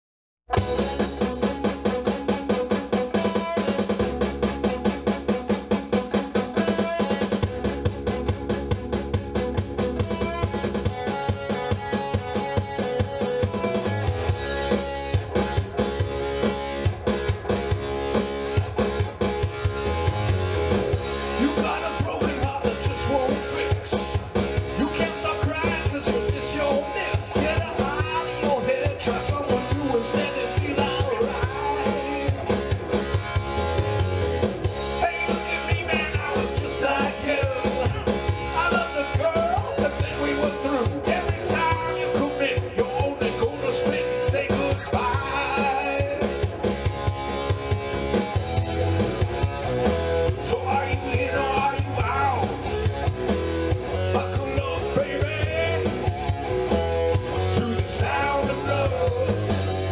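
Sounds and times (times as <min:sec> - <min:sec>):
rock band playing: 0:00.5 - 0:59.9.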